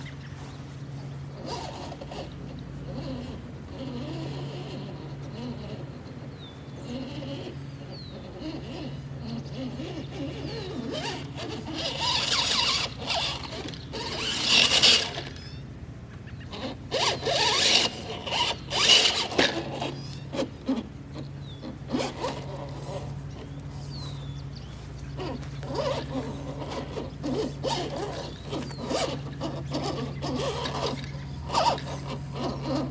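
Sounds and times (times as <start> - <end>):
toy car motor whirring: 1.3 - 15.6, 16.4 - 32.9.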